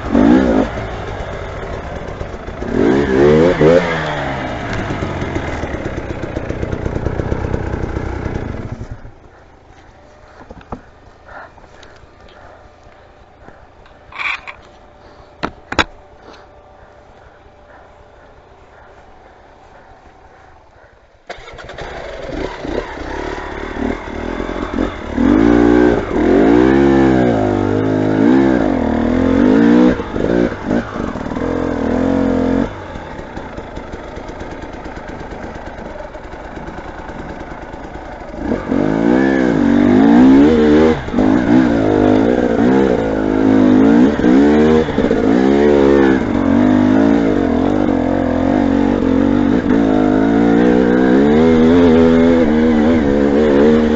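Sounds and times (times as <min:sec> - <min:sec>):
motorcycle engine revving: 0:00.0 - 0:09.5, 0:12.3 - 0:14.8, 0:21.2 - 0:53.9.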